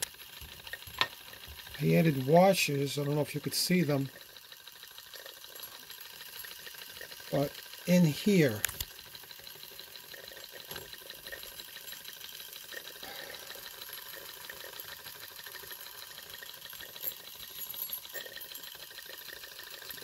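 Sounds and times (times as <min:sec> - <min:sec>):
model steam engine gear whirring: 0:00.0 - 0:20.0.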